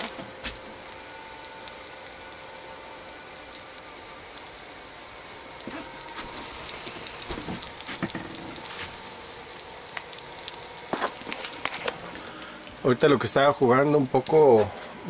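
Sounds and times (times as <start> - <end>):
small crackling pops: 0.0 - 14.6
omelette sizzling in a frying pan: 0.0 - 14.7.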